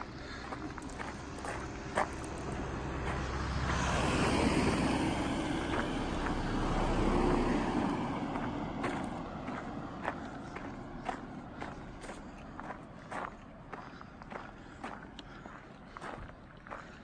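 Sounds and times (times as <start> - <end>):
vehicle driving past: 0.0 - 15.1.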